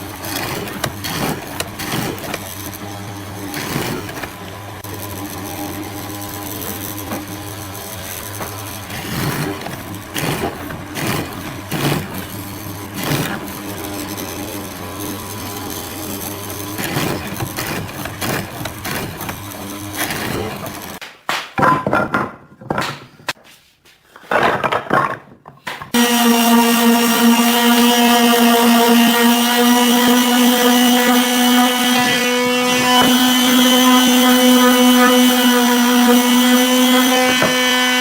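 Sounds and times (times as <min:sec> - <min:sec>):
small motor running: 0:00.0 - 0:21.0, 0:26.0 - 0:38.0.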